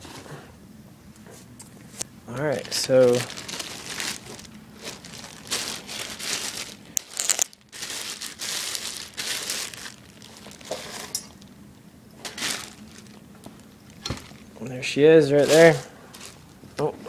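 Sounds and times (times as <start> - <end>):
packaging crinkling and rustling: 1.9 - 11.6, 12.2 - 16.6.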